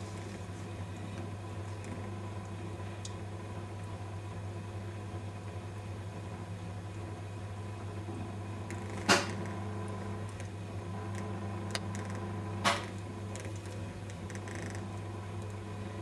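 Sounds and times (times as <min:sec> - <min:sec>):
potter's wheel humming: 0:00.0 - 0:16.0.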